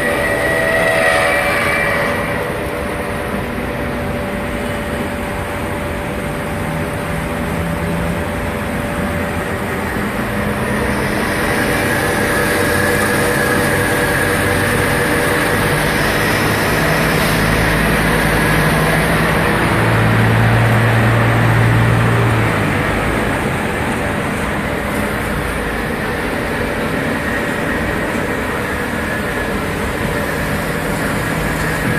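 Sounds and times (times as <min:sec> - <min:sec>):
band saw running: 0:00.0 - 0:31.9
steady high tone: 0:00.0 - 0:31.9.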